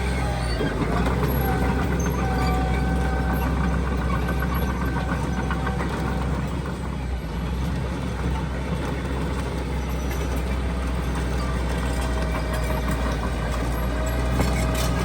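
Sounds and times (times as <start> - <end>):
heavy diesel machinery drone: 0.0 - 15.0.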